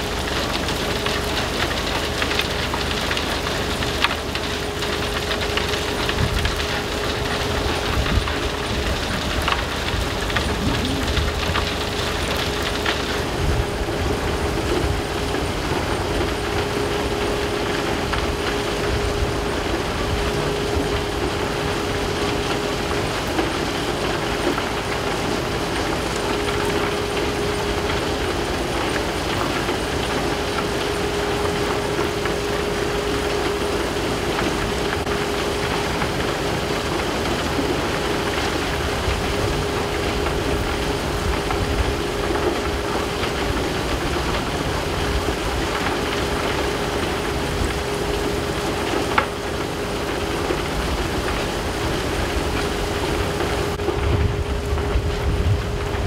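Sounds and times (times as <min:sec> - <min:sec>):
conveyor electric drive hum: 0:00.0 - 0:56.0
machinery rumble: 0:00.0 - 0:56.0.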